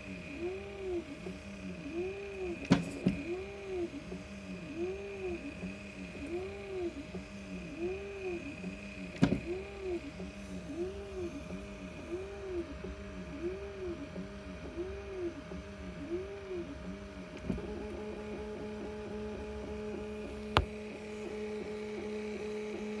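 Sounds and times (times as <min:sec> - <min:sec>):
stepper motor whine: 0:00.0 - 0:23.0.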